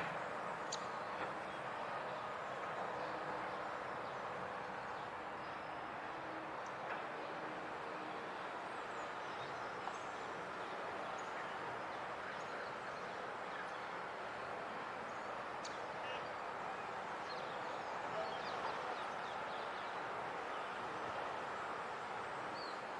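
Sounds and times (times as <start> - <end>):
distant city traffic hum: 0.0 - 22.9.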